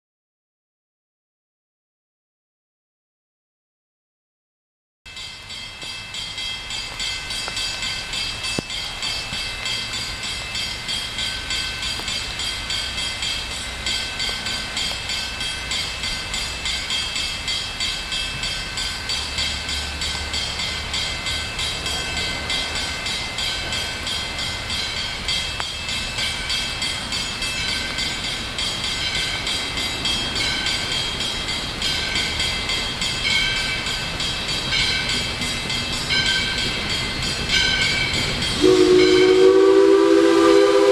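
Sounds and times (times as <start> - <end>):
approaching train: 5.1 - 40.9
crossing warning bell ringing: 5.1 - 40.9.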